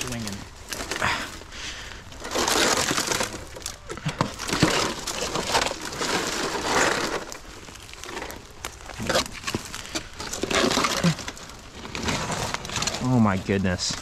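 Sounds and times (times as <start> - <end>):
metal roofing sheets scraping: 0.0 - 14.0.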